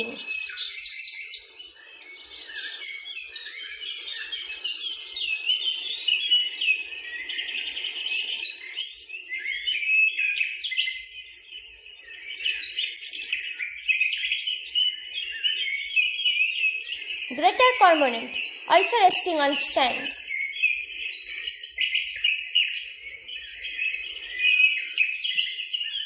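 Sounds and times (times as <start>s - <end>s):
many birds chirping and calling: 0.0s - 26.0s.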